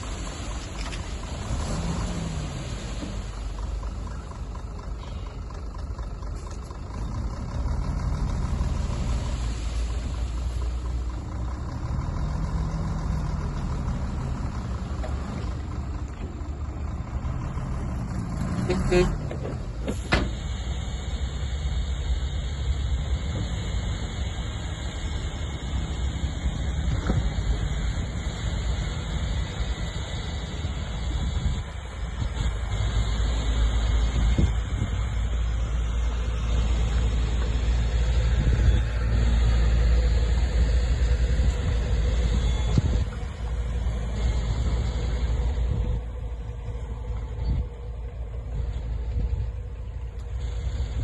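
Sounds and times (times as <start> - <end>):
heavy machine engine rumbling: 0.0 - 51.0.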